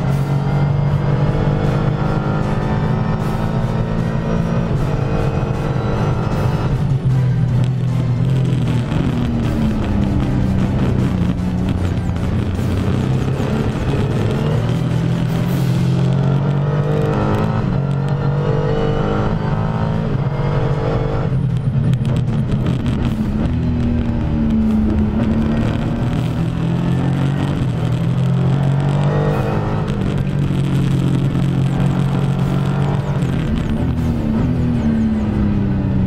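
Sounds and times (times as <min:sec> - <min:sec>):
race car engine at speed: 0:00.0 - 0:36.0.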